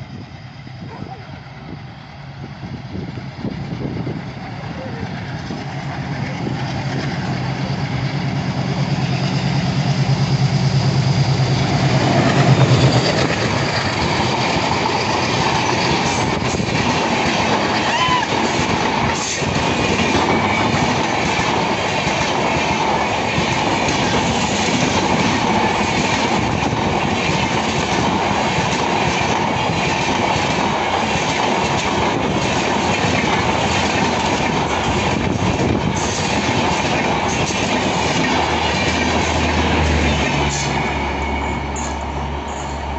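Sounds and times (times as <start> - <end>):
diesel locomotive engine hum: 0.0 - 42.9
train wheels clickety-clack: 3.0 - 42.8.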